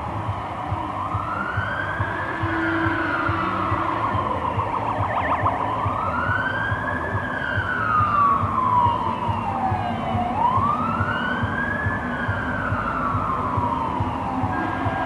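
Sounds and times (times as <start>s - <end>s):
fire engine siren wailing: 0.0s - 15.0s
low vehicle rumble: 0.0s - 15.0s.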